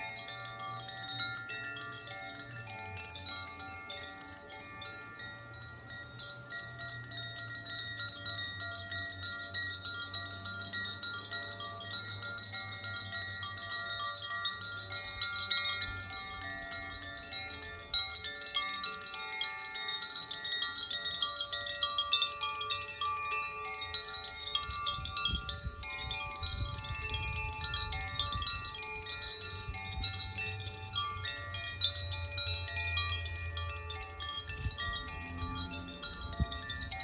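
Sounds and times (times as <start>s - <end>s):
wind chimes ringing: 0.0s - 37.0s.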